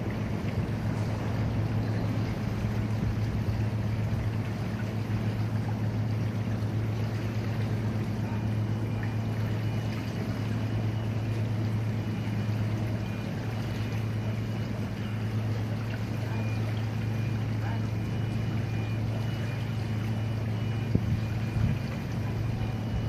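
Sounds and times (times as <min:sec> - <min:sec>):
constant rushing noise: 0:00.0 - 0:23.0
low engine hum: 0:00.0 - 0:23.0.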